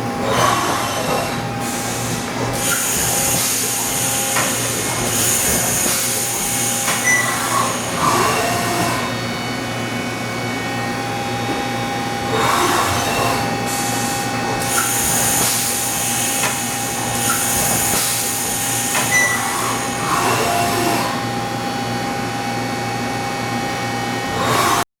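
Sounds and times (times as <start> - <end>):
machine whine of held tones: 2.6 - 22.9.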